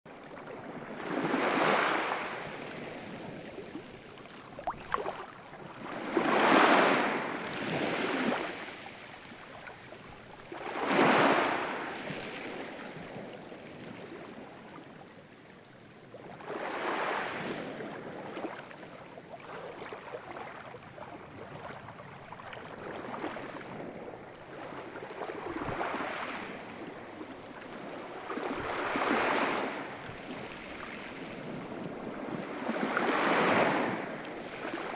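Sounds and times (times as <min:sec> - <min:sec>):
sea waves breaking: 0:00.3 - 0:14.4, 0:19.4 - 0:34.9.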